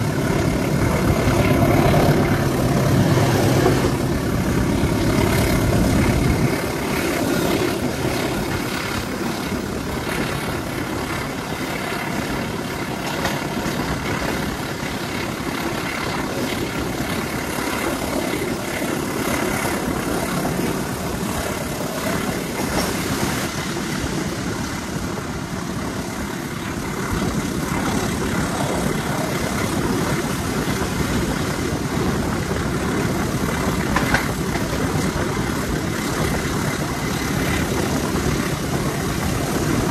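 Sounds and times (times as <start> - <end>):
diesel locomotive engine working: 0.0 - 39.9
train wheels clattering on rails: 0.0 - 39.9.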